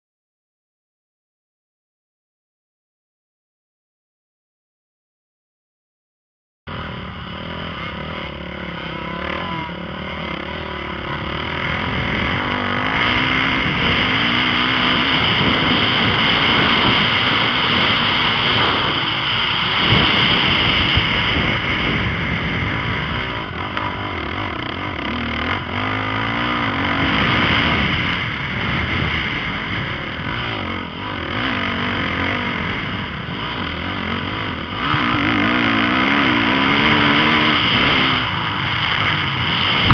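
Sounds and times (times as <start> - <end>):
dirt bike engine revving: 6.7 - 39.9.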